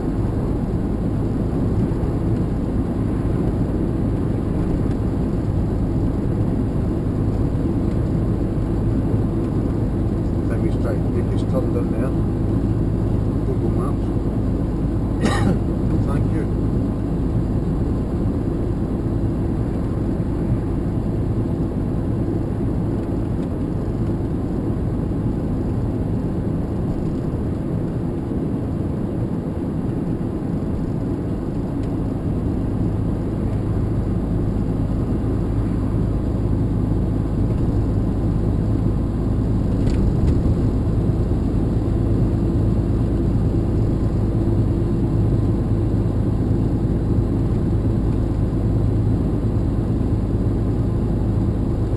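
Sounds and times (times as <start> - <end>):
engine and road drone: 0.0 - 51.9.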